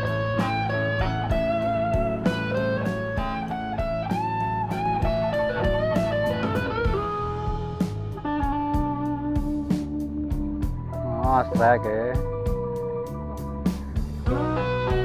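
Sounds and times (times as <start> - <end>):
electric guitar melody: 0.0 - 15.0
steady beat: 0.0 - 15.0.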